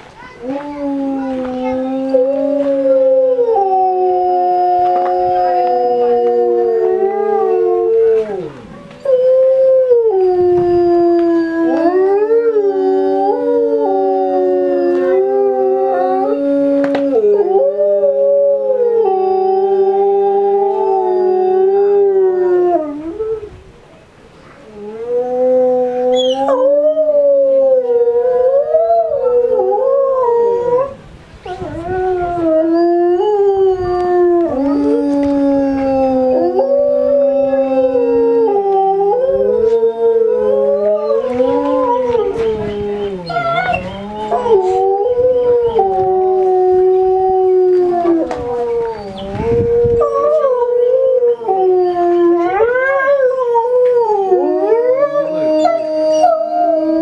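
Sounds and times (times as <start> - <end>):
wolves howling in chorus: 0.4 - 23.6, 24.8 - 57.0.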